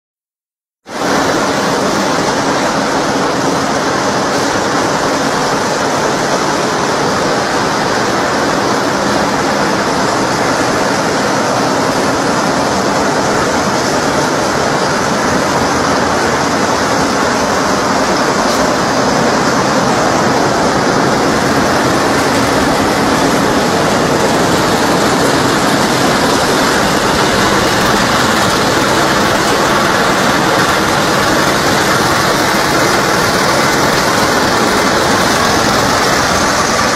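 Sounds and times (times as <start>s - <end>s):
industrial machinery running: 0.8s - 36.9s.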